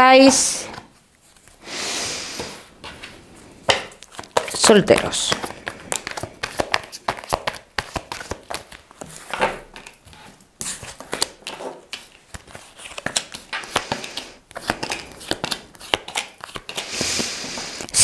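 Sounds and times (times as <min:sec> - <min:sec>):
cards being shuffled: 0:02.3 - 0:18.0.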